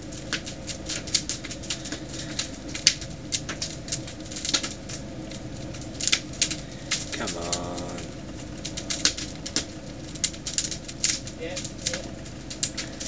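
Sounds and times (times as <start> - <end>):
microwave oven humming: 0.0 - 13.0
sharp crackling and snapping: 0.0 - 13.0.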